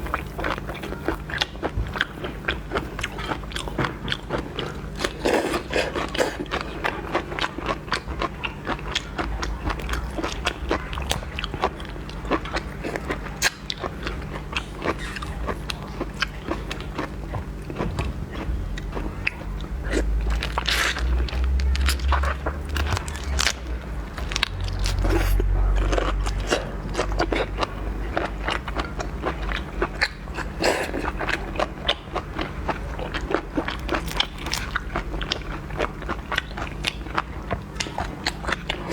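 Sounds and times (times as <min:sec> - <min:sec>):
seafood crunching and chewing: 0:00.0 - 0:38.9.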